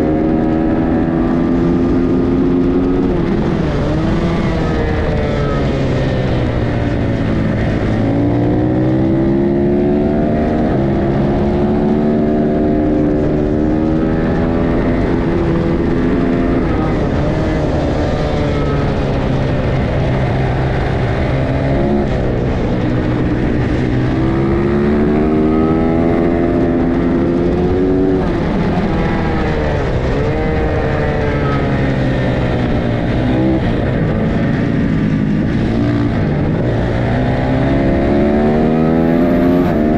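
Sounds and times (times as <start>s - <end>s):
drone of motorcycles: 0.0s - 39.9s
motorcycles passing at speed: 0.0s - 39.9s.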